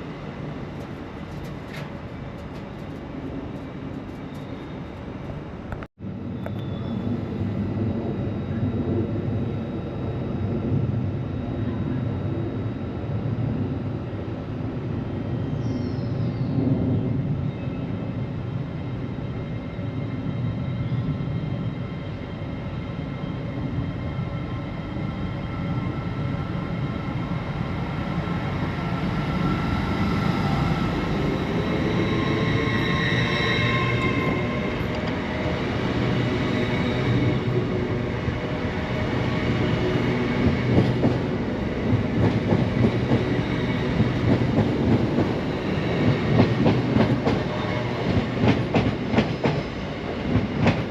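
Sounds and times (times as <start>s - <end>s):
train rumble and whine: 0.0s - 50.9s.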